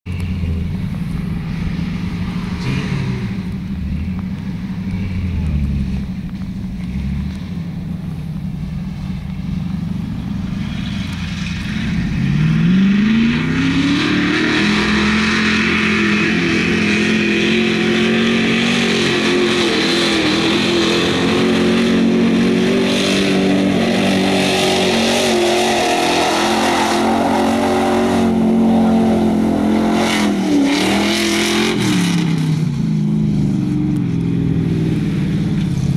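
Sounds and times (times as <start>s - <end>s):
truck engine revving: 0.1s - 35.9s.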